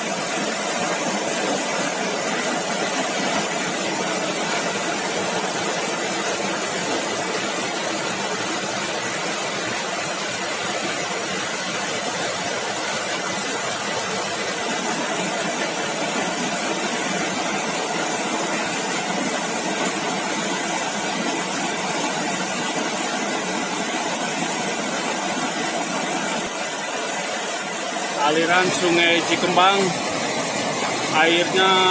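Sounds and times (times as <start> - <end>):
river rushing: 0.0 - 31.9.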